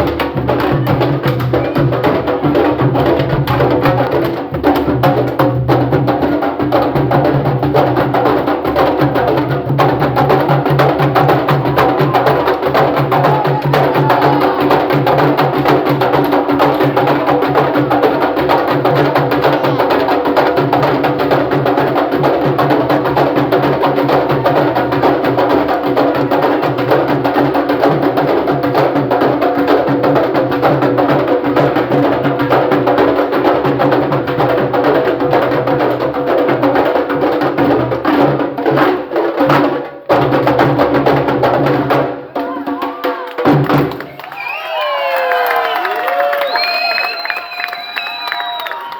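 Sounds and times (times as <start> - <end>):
drum ensemble playing rhythm: 0.0 - 44.2.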